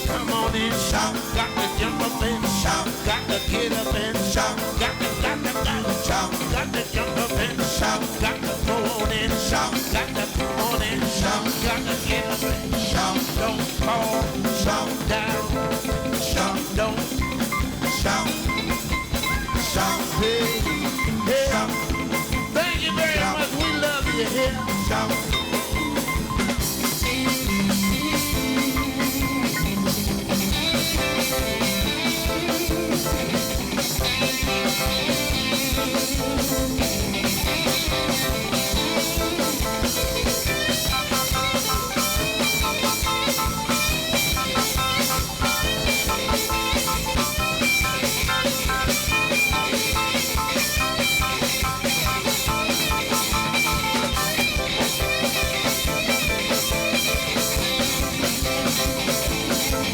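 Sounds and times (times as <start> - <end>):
live band drums and guitar: 0.0 - 59.9.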